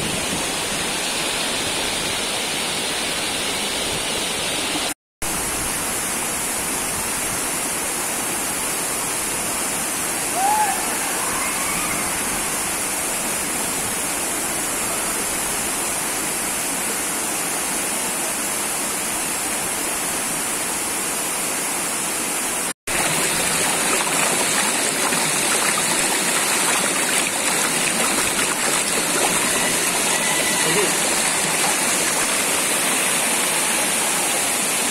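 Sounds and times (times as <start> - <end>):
water rushing over rocks: 0.0 - 34.9
waterfall roaring: 0.0 - 34.9.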